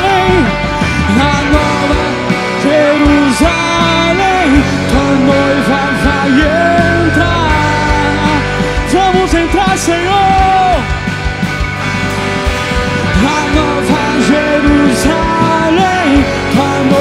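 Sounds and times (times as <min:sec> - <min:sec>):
bass: 0:00.0 - 0:17.0
drum kit: 0:00.0 - 0:17.0
electric guitars: 0:00.0 - 0:17.0
keyboards: 0:00.0 - 0:17.0.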